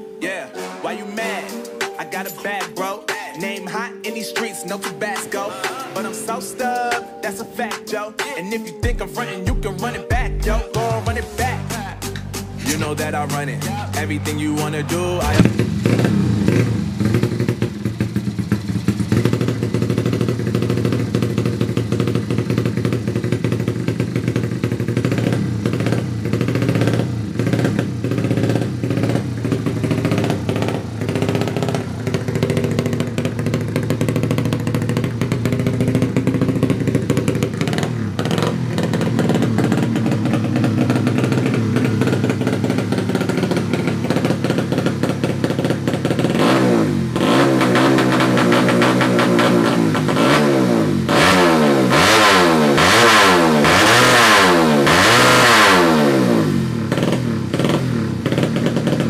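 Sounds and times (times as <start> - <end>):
motorcycle engine revving: 9.6 - 59.0.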